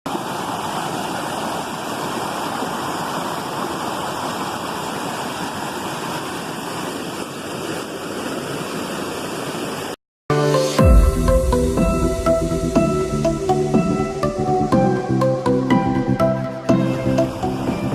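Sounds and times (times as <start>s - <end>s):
waterfall rushing: 0.1s - 17.9s.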